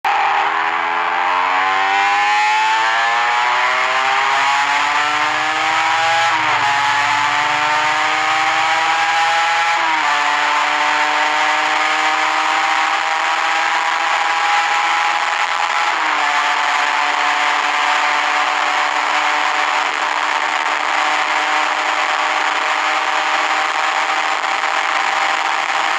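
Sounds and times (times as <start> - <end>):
two-stroke engine accelerating: 0.1 - 25.9.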